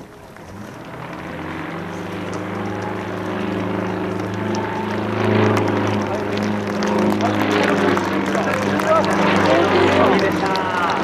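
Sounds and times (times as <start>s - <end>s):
aircraft engine droning overhead: 0.0s - 11.0s.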